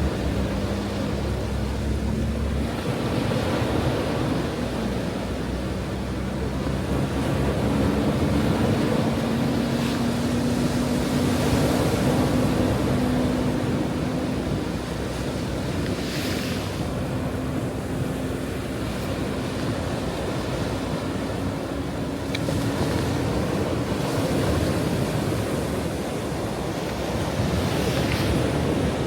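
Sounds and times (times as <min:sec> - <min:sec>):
ocean surf breaking on shore: 0:00.0 - 0:29.0.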